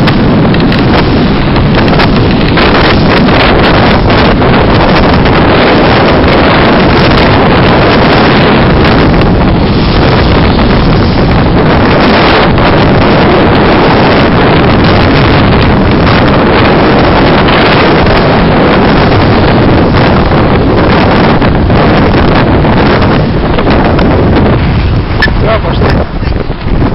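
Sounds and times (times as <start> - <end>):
surf breaking on rocks: 0.0 - 26.9
wind buffeting microphone: 0.0 - 26.9.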